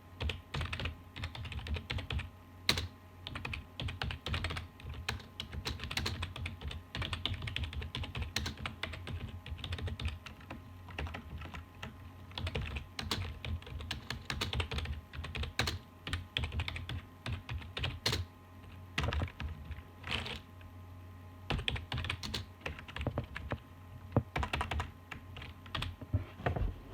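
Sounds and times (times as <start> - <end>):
computer keyboard typing: 0.2 - 20.4, 21.5 - 23.6, 24.3 - 26.0.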